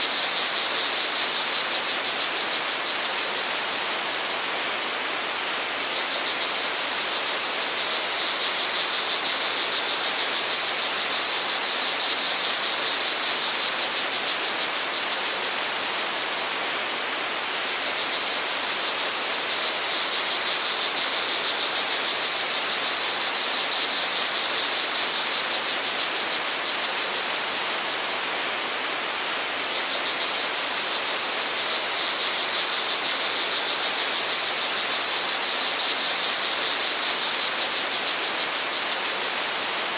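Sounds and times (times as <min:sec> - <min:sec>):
crickets trilling: 0:00.0 - 0:16.6, 0:17.5 - 0:39.9.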